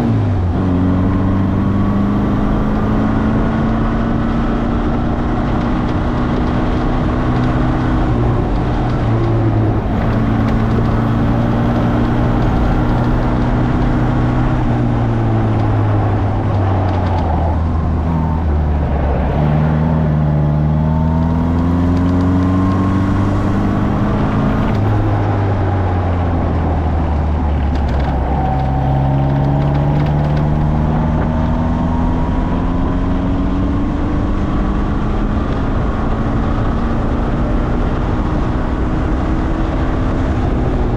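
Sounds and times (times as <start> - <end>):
sports car engine revving: 0.0 - 40.9.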